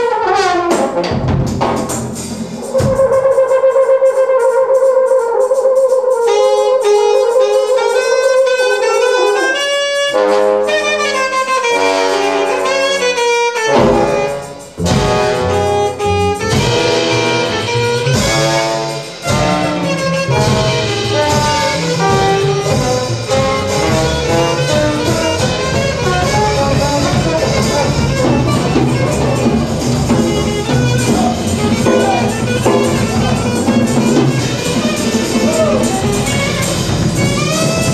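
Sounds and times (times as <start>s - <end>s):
double bass: 0.0s - 37.9s
drums: 0.0s - 37.9s
trombone: 0.0s - 37.9s
saxophone: 2.5s - 37.9s.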